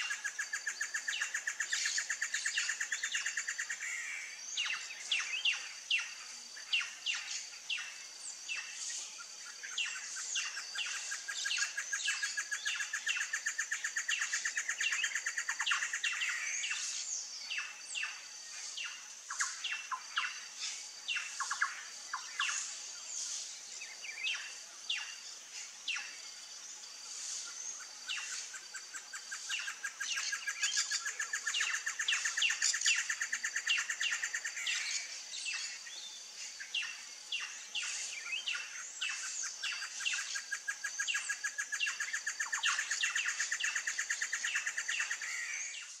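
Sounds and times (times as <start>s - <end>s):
fast steady bird trill: 0.0s - 25.3s, 27.3s - 46.0s
wild birds chirping: 0.0s - 46.0s.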